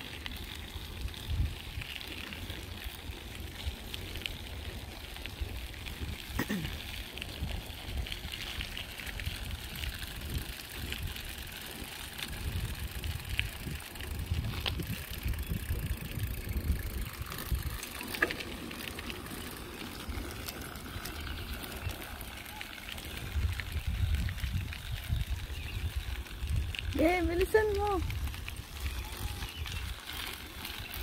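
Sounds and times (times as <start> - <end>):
wind rumble on microphone: 0.0 - 19.2, 20.0 - 31.0
bicycle tyres crunching on gravel: 0.0 - 31.0.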